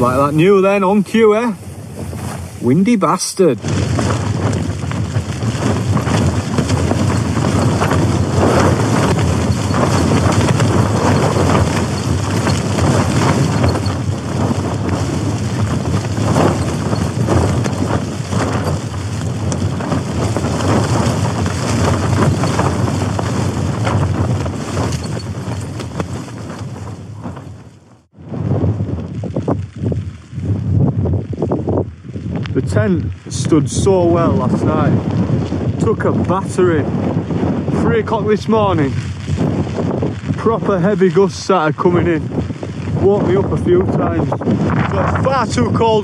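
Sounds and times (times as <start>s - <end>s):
strong wind rushing: 0.0s - 46.0s.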